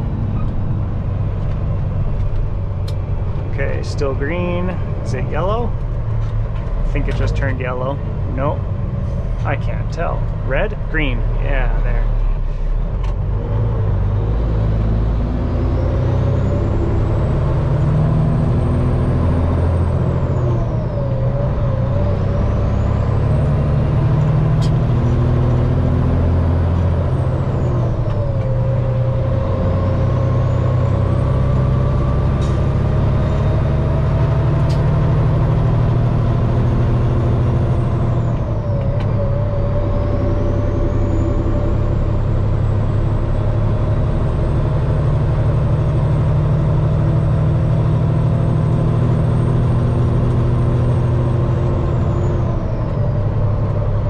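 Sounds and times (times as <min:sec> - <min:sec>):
diesel truck engine accelerating: 0:00.0 - 0:54.0.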